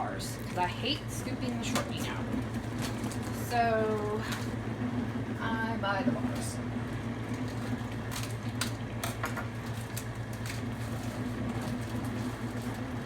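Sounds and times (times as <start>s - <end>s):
dishwasher humming: 0.0s - 13.0s.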